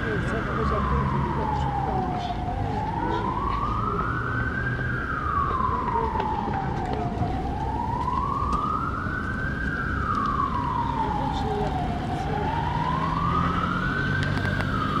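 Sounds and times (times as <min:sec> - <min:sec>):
emergency vehicle siren wailing: 0:00.0 - 0:15.0
street traffic rumble: 0:00.0 - 0:15.0.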